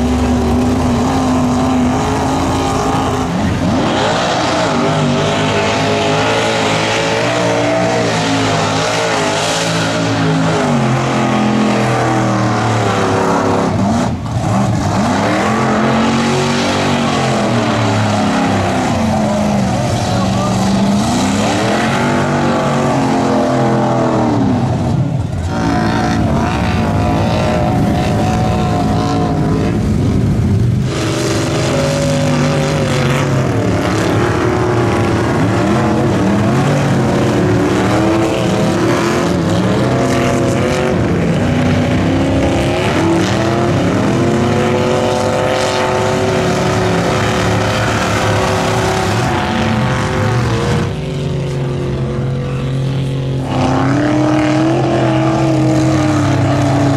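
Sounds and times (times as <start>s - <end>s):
truck engines revving hard: 0.0s - 56.9s.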